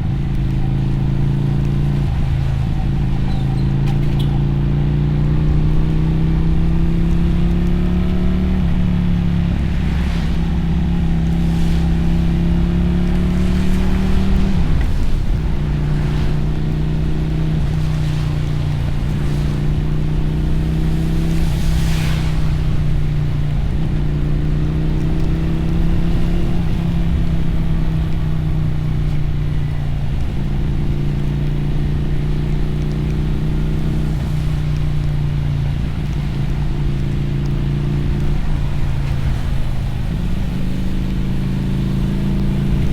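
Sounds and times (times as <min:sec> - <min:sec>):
motorcycle engine revving: 0:00.0 - 0:42.9
wind: 0:00.0 - 0:42.9
tyres hissing on wet road: 0:05.2 - 0:42.9.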